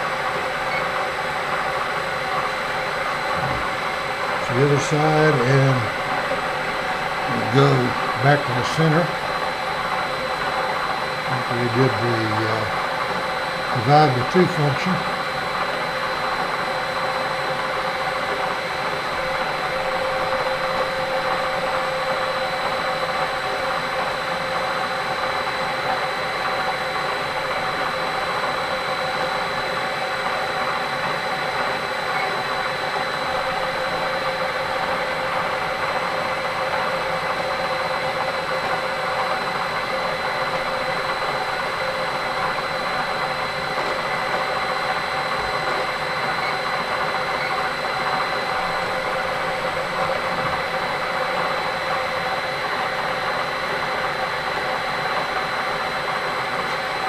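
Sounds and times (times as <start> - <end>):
high machine whine: 0.0 - 57.0
milling machine motor hum: 0.0 - 57.0.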